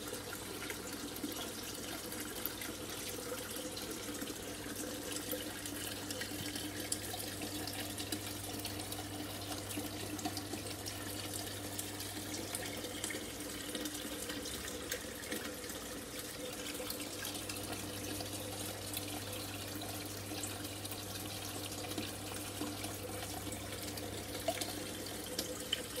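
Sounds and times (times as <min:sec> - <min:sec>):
aquarium water trickling: 0:00.0 - 0:26.0.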